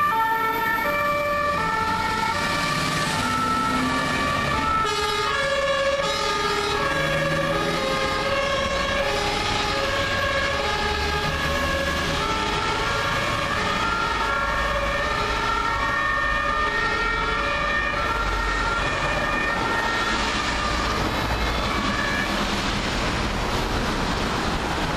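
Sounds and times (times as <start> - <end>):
traffic and truck engines: 0.0 - 24.9
two-tone fire engine sirens: 0.0 - 24.9.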